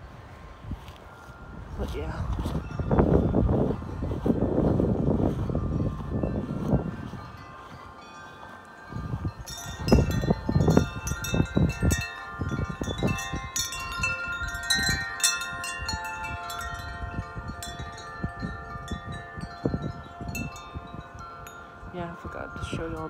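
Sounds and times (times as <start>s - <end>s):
wind chimes ringing: 0.0s - 23.0s
wind rumbling on microphone: 0.0s - 23.0s.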